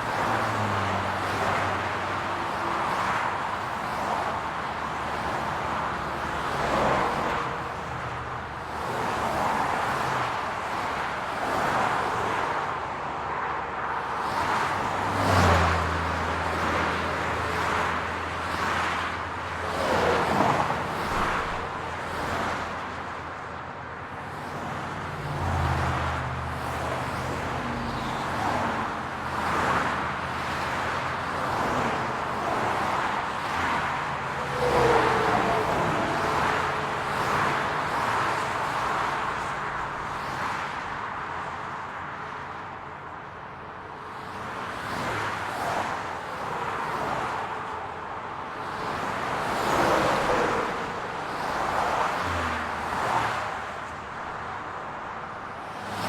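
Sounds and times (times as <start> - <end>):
cars passing with tyre noise: 0.0 - 56.0.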